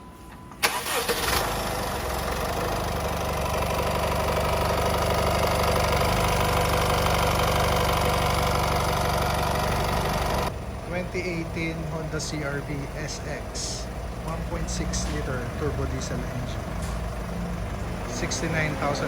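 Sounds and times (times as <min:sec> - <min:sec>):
diesel car engine starting and idling: 0:00.0 - 0:19.0.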